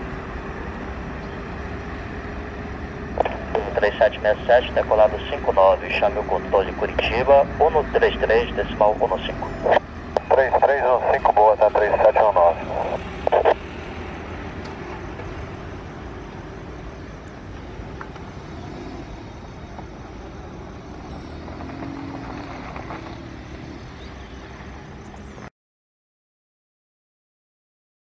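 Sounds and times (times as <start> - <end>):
distant jet rumble: 0.0 - 25.5.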